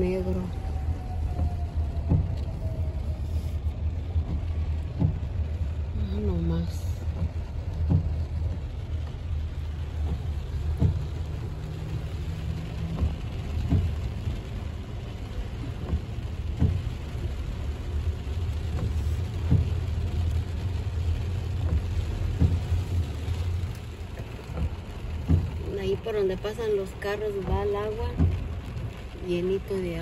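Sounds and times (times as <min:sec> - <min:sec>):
car moving through water: 0:00.0 - 0:30.0
heavy rain on a car: 0:00.0 - 0:30.0.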